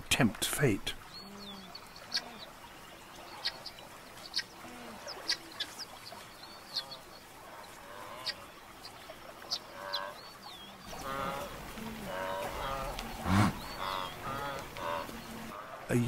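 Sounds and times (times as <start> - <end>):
guineafowl sharp calls: 1.4 - 2.5, 3.2 - 15.8.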